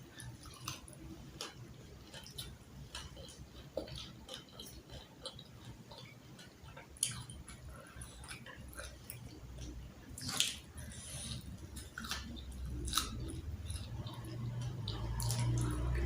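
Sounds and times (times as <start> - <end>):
chewing and mouth clicks: 0.1 - 16.0
food crunching: 0.1 - 16.0.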